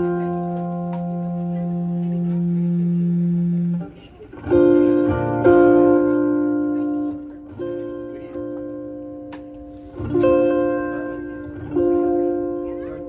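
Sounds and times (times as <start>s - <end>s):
bass guitar: 0.0s - 13.0s
electric guitar chords: 0.0s - 13.0s.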